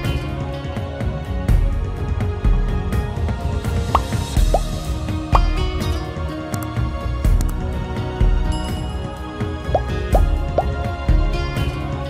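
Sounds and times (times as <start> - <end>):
background music with steady beat: 1.5 - 12.0.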